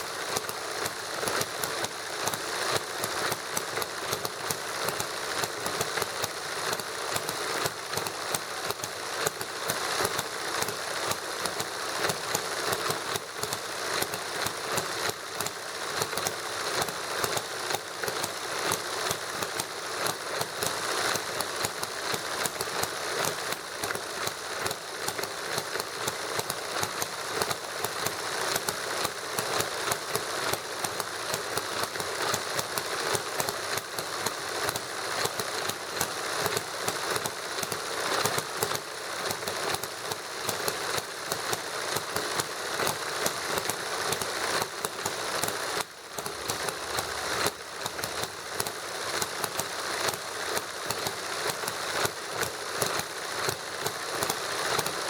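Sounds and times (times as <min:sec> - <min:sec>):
model engine clattering: 0:00.0 - 0:55.0.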